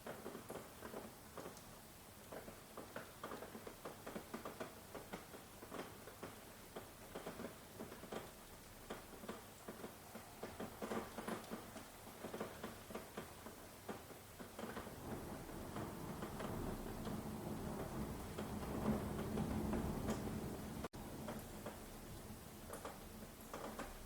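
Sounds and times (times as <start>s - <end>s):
rain drops pattering: 0.0s - 24.0s.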